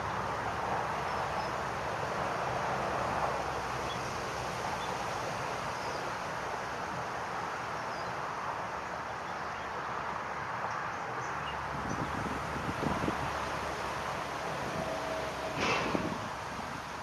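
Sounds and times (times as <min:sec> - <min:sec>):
wind with rustling: 0:00.0 - 0:17.0.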